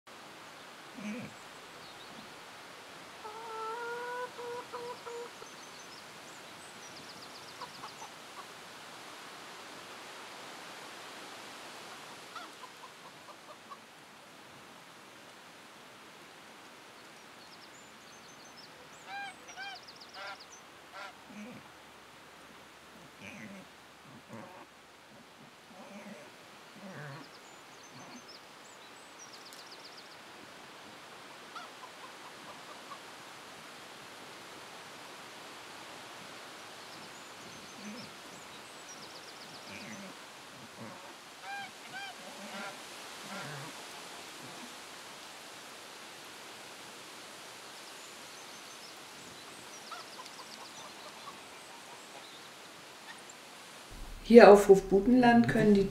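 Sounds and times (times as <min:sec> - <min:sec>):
background hiss: 0:00.1 - 0:55.9
faint outdoor background: 0:00.1 - 0:55.9.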